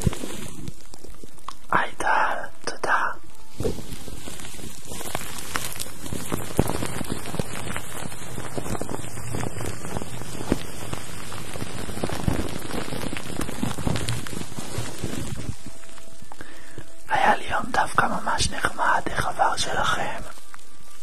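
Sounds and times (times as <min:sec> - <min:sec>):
rain-like clicks and crackles: 0:00.0 - 0:21.0
steady hiss: 0:00.0 - 0:21.0.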